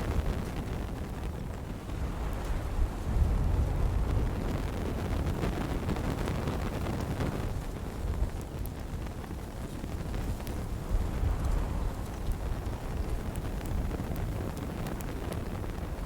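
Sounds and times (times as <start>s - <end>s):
swirling wind rumble: 0.0s - 16.0s
wood fire crackling: 0.0s - 16.0s.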